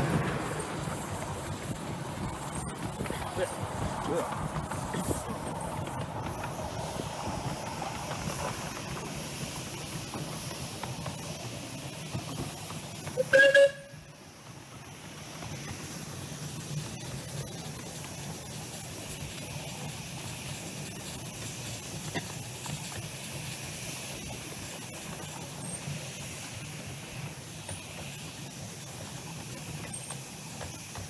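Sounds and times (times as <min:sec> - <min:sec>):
train running: 0:00.0 - 0:31.0
wheels clicking over track: 0:00.0 - 0:31.0.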